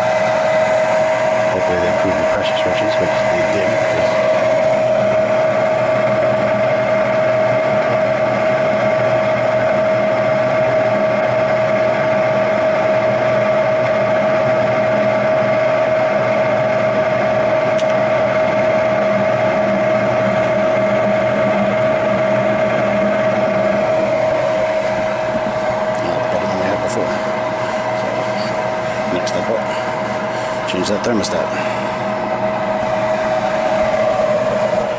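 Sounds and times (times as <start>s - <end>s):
furnace draft motor humming: 0.0s - 34.9s.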